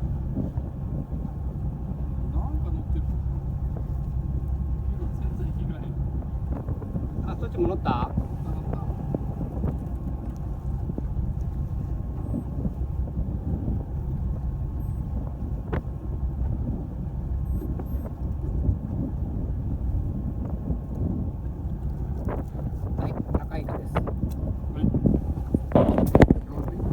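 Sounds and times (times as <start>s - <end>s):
boat motor rumbling: 0.0s - 26.9s
wind on microphone: 0.0s - 26.9s.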